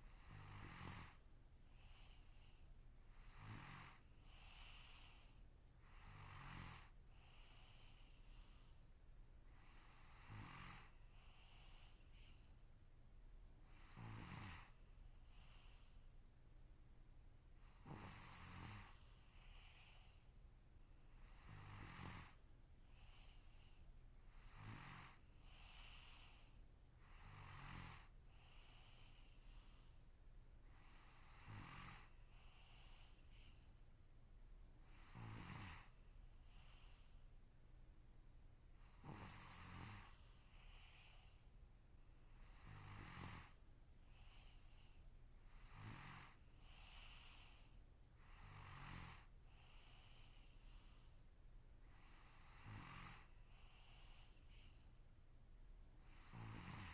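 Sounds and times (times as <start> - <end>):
person snoring faintly: 0.0 - 8.8, 9.5 - 12.5, 13.7 - 16.0, 17.6 - 20.3, 21.2 - 30.0, 30.6 - 33.7, 34.8 - 37.2, 38.8 - 41.4, 42.3 - 51.2, 51.8 - 54.8, 56.0 - 56.9
soft breath: 0.0 - 56.9.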